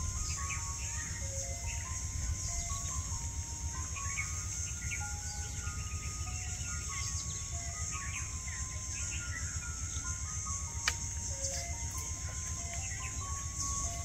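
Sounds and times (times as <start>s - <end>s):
bird chirps: 0.0s - 14.0s
slow melody of held notes: 0.0s - 14.0s
steady high hiss: 0.0s - 14.0s.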